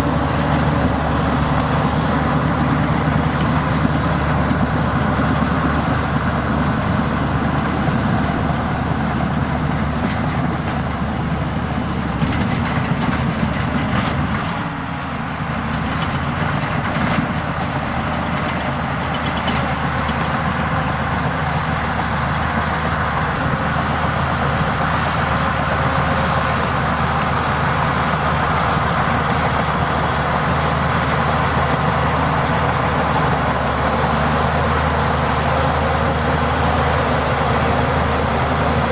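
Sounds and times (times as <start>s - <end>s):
diesel earthmoving machinery running: 0.0s - 38.9s.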